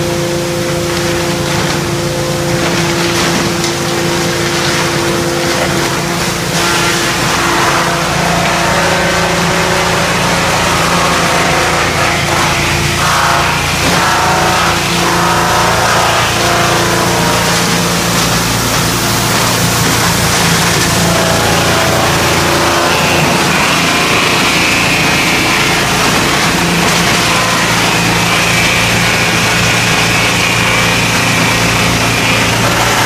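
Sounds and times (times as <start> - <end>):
high machine whine: 0.0 - 33.0
sawdust machine droning: 0.0 - 33.0.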